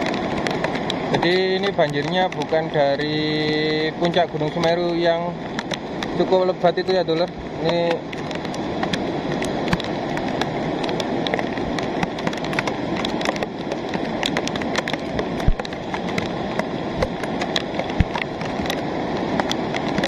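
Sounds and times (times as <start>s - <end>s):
sharp ticks: 0.0s - 18.8s
torrent of muddy water rushing: 0.0s - 20.0s.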